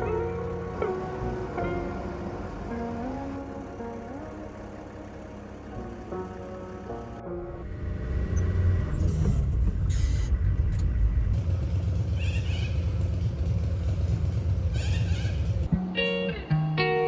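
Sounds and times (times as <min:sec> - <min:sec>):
vehicle rumble: 0:00.0 - 0:16.6.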